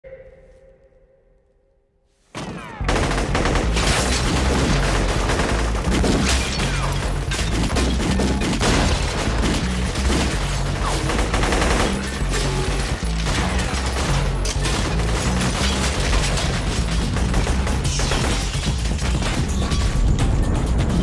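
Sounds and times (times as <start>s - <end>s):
automatic rifle fire: 2.4s - 19.5s.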